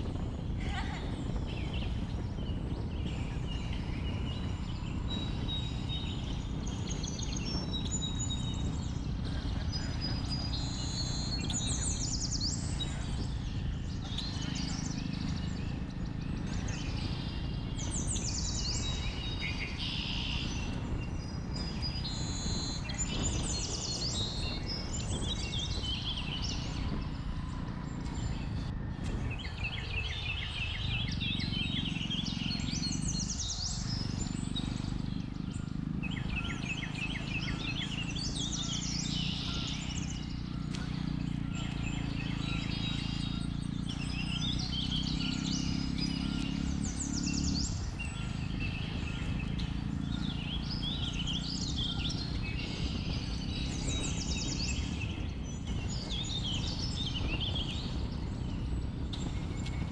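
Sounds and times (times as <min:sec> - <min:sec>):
birds chirping and trilling: 0:00.0 - 0:59.9
motorcycle engine rumbling: 0:00.0 - 0:59.9.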